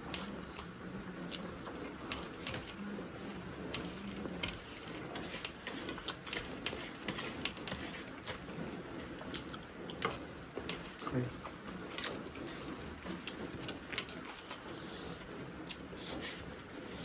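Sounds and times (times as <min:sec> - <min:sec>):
fingers scraping rice on plates: 0:00.0 - 0:17.0
mouths chewing and smacking: 0:00.0 - 0:17.0.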